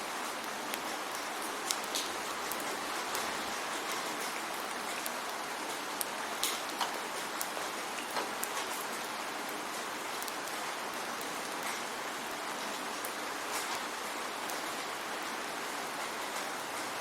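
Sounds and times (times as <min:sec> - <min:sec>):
steady rain hiss: 0:00.0 - 0:17.0
raindrops tapping on a surface: 0:00.4 - 0:17.0.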